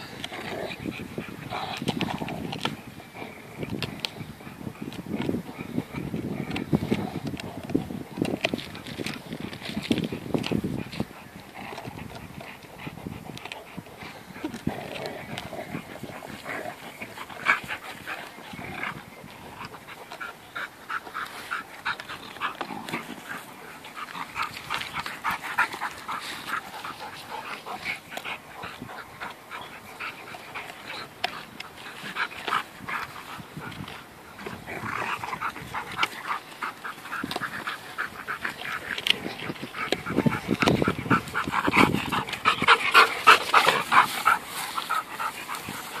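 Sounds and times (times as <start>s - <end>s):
dogs playing: 0.0s - 46.0s.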